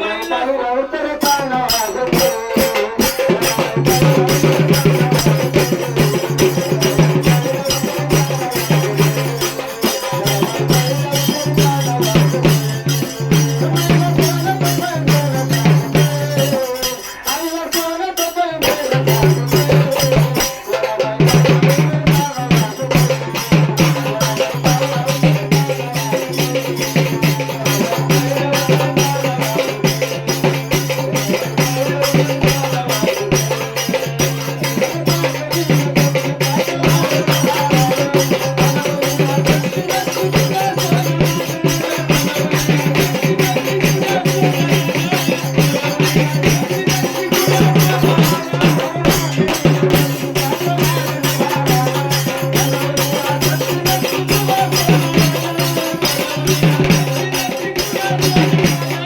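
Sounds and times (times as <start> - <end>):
fast drum: 1.2 - 59.0
rattling percussion: 1.2 - 59.0.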